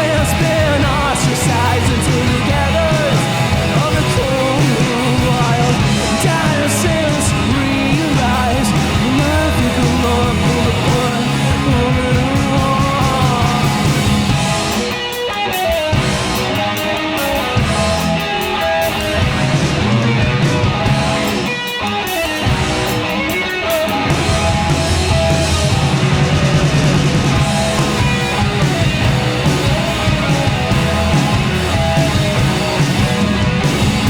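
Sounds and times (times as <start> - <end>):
drum and cymbal hits: 0.0 - 34.0
electric guitar: 0.0 - 34.0
rock band playing: 0.0 - 34.0.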